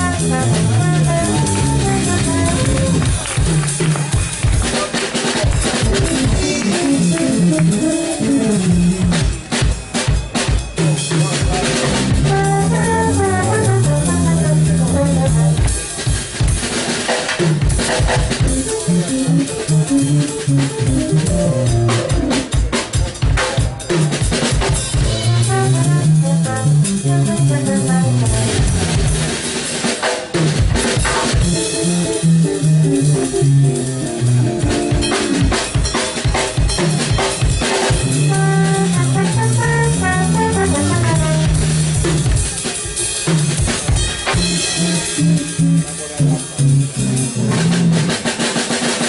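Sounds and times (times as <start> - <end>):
trombone: 0.0 - 4.2, 5.6 - 9.4, 10.9 - 16.0, 17.8 - 22.5, 24.9 - 29.6, 30.5 - 49.0
keyboard: 0.0 - 16.8, 17.5 - 49.0
drum kit snare and bass drum: 0.0 - 49.0.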